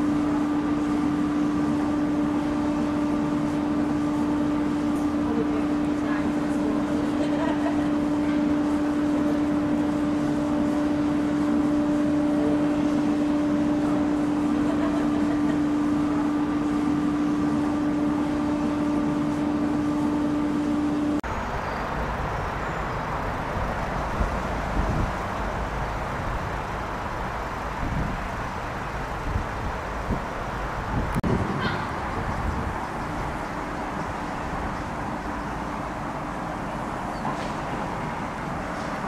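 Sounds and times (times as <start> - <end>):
rumbling outdoor background noise: 0.0 - 39.0
train engine droning hum: 0.0 - 39.0.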